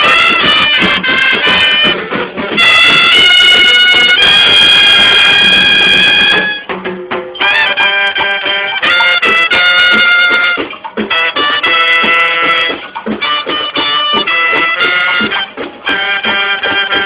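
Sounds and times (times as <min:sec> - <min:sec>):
loud wind instrument music: 0:00.0 - 0:17.0.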